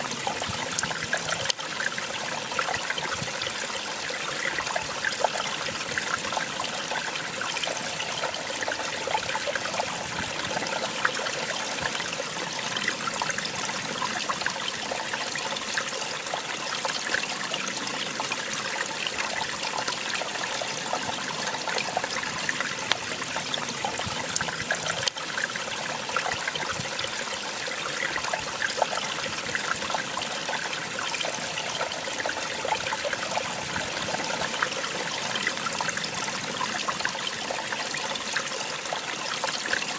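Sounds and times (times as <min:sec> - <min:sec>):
small waterfall splashing over rocks: 0:00.0 - 0:39.9.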